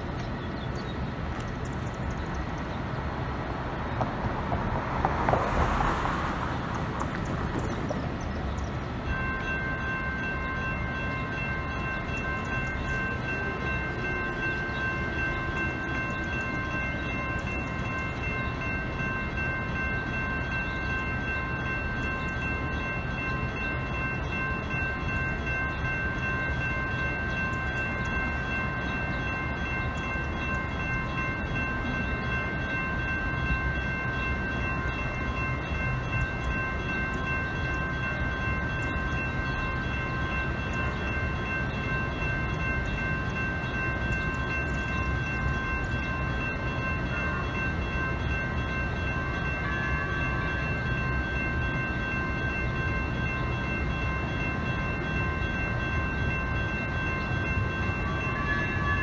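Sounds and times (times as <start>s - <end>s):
railroad crossing bells ringing: 0.0s - 59.0s.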